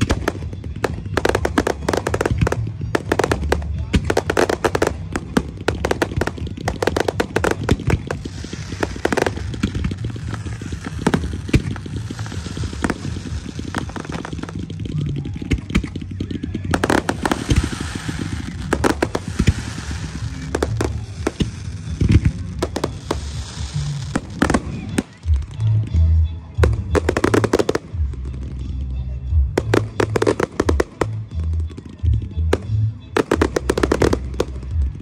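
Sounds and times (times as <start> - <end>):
fireworks bangs: 0.0 - 25.6, 29.6 - 35.0
fireworks crackling: 0.0 - 35.0.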